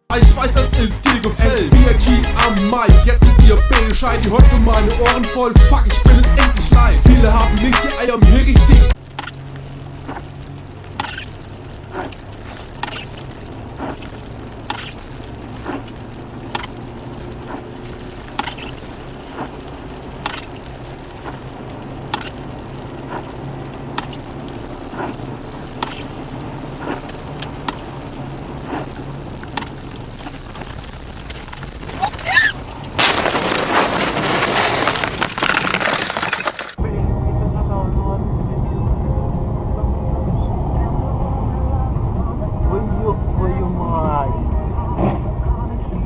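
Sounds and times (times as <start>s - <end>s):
car engine and road drone: 0.0s - 46.0s.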